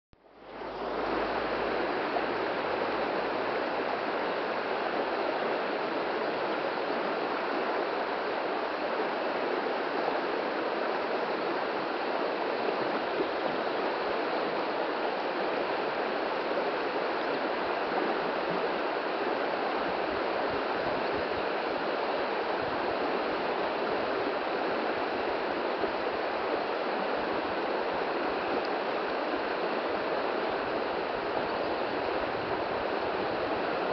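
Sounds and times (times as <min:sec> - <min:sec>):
river running over stones: 0:00.3 - 0:33.9.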